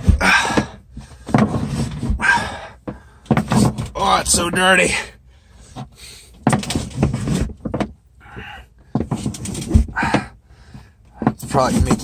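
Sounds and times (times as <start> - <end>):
tubing scraping and rubbing: 0.0 - 12.0.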